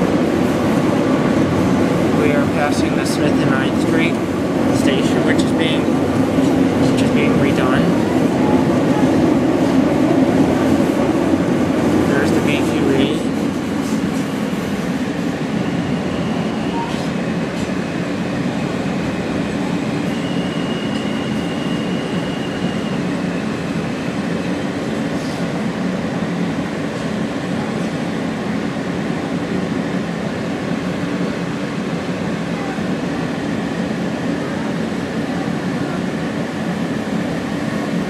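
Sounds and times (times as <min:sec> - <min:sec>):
subway wheels rumbling on rail: 0:00.0 - 0:38.0.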